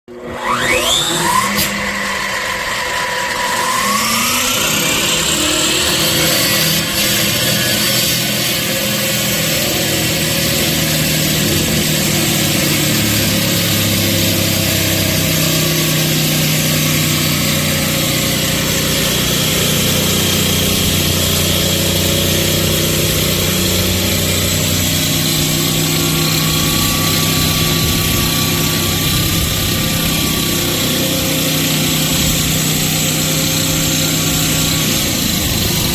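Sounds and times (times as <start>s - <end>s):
concrete cutting saw running: 0.1s - 35.9s.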